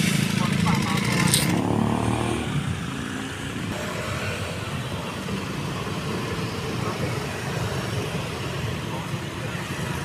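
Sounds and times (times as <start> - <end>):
car engines rumbling: 0.0 - 10.0
motorcycle engines: 0.0 - 10.0.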